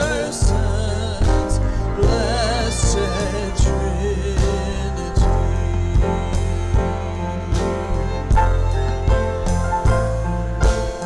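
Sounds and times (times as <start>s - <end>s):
church worship music: 0.0s - 11.0s.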